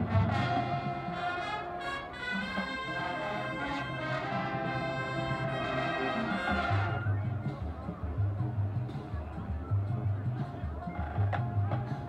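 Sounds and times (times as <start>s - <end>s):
marching band brass chords: 0.0s - 12.0s.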